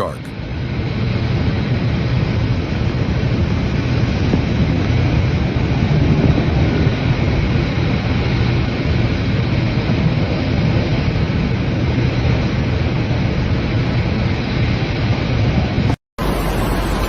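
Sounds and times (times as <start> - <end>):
storm wind: 0.0 - 17.0.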